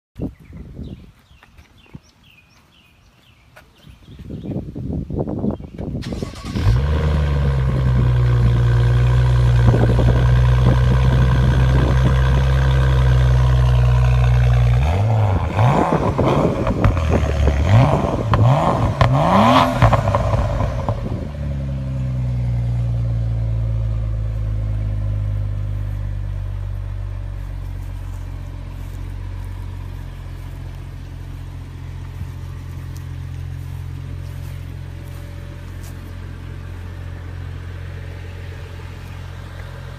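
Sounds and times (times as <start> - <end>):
car engine starting and idling: 5.8 - 39.9
car engine revving: 6.1 - 39.9.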